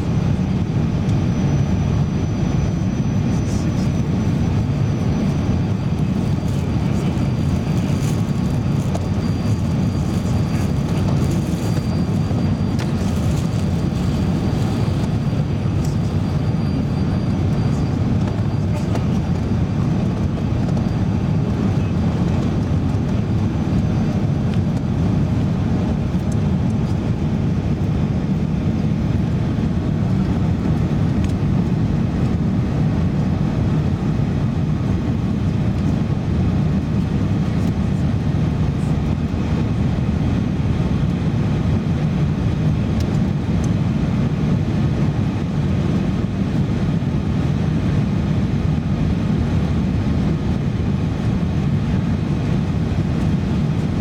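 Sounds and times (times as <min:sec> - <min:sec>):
aircraft engines rumbling: 0:00.0 - 0:54.0.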